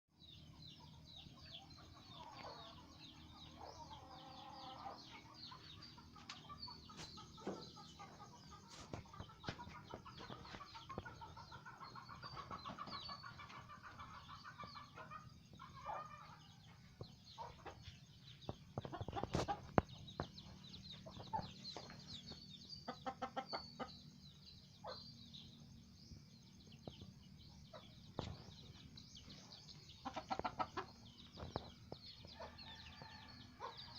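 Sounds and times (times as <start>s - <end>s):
small birds chirping: 0.1s - 33.9s
chickens clucking: 0.4s - 33.9s.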